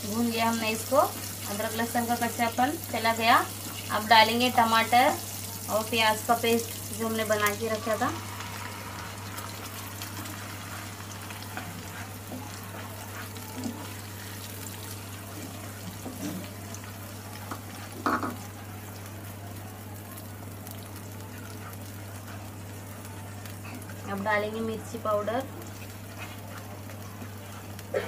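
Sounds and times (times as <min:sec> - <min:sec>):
paste sizzling in hot oil: 0:00.0 - 0:27.9.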